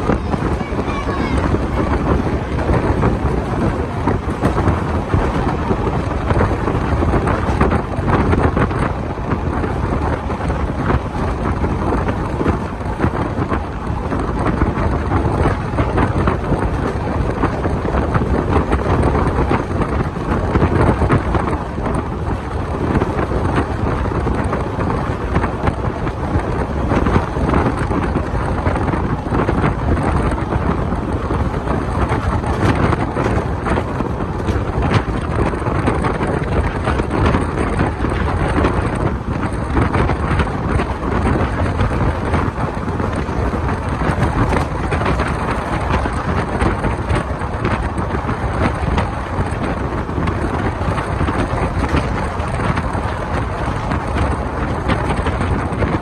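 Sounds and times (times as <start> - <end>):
train wheels rumbling on track: 0.0 - 56.0
wind buffeting microphone: 0.0 - 56.0.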